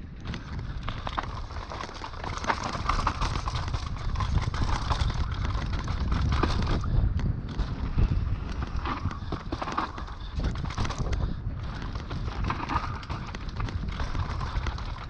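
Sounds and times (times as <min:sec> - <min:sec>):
bike rattling over bumps: 0:00.0 - 0:15.0
tyres over dirt and roots: 0:00.0 - 0:15.0.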